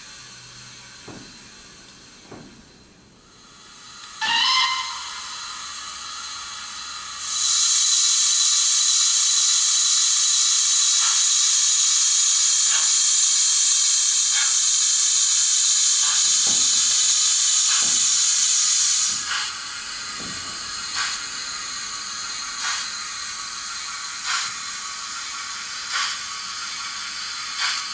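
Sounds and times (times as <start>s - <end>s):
steam hiss from small speaker: 3.3s - 27.9s.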